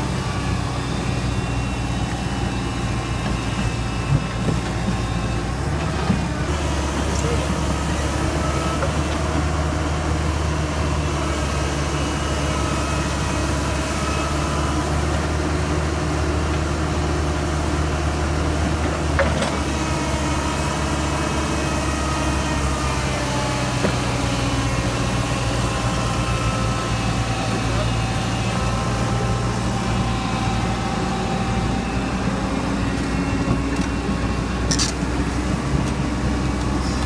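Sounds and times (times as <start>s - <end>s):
excavator diesel engines running: 0.0s - 37.0s
faint hydraulic whine: 0.0s - 37.0s.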